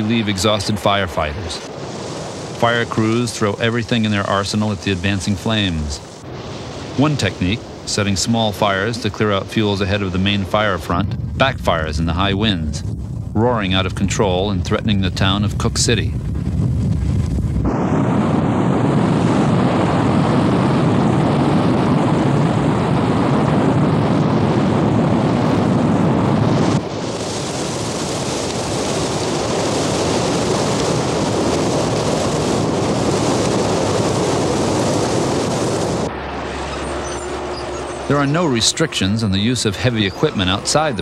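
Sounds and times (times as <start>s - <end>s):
forest fire roaring: 0.0s - 41.0s.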